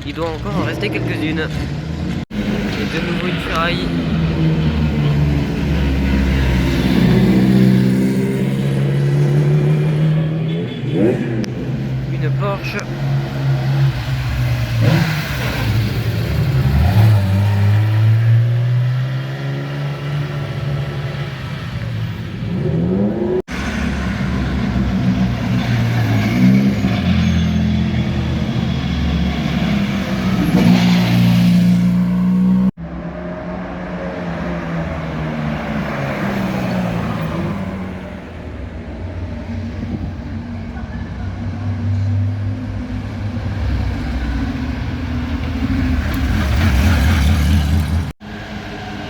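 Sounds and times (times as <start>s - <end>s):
sports car engines revving past: 0.6s - 40.2s, 41.7s - 49.0s.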